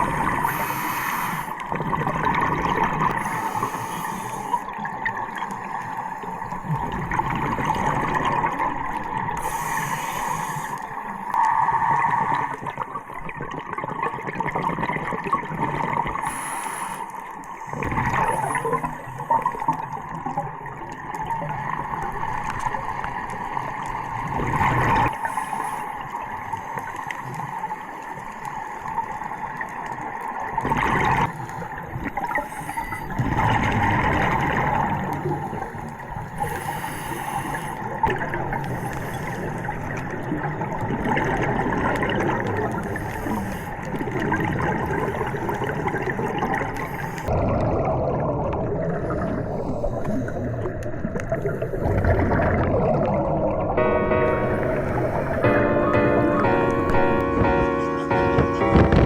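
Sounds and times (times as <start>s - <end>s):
water sloshing and gurgling: 0.0s - 53.8s.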